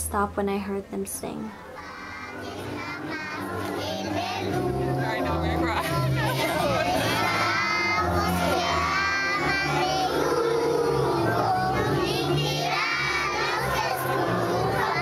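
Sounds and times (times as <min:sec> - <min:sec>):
children singing together: 0:01.5 - 0:15.0.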